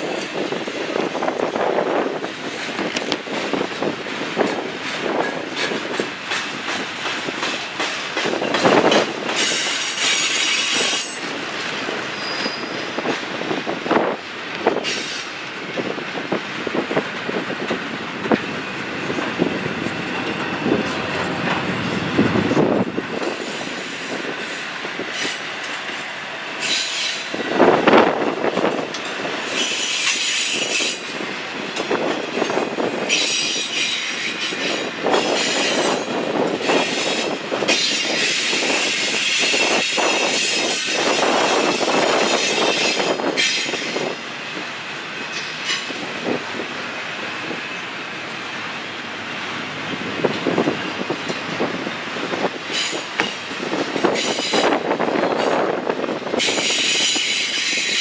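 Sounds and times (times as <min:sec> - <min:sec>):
train wheels clicking over joints: 0:00.0 - 0:47.7, 0:49.3 - 0:58.0.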